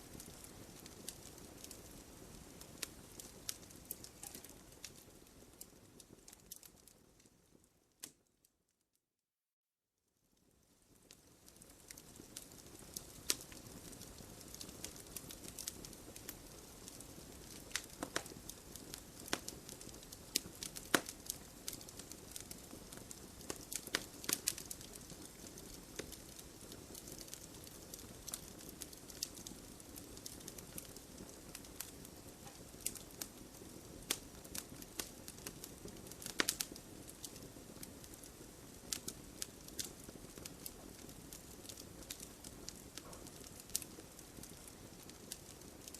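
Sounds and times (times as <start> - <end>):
logs crackling and popping: 0.0 - 8.2, 10.7 - 45.9.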